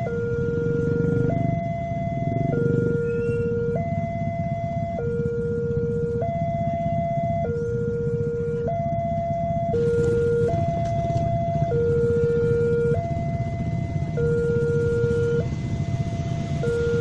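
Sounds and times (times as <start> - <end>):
motorcycle engines idling: 0.0 - 17.0
two-tone level crossing alarm: 0.0 - 17.0.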